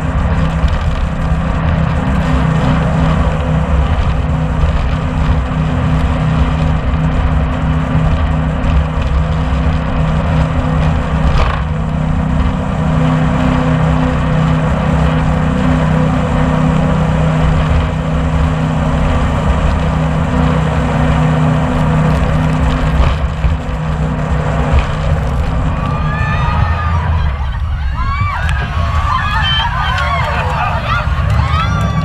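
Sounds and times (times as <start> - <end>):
boat engines running: 0.0 - 32.0
wind and water rushing: 0.0 - 32.0.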